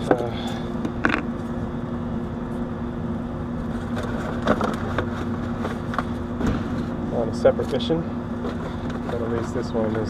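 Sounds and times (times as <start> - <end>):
mechanical hum and rumble: 0.0 - 10.0.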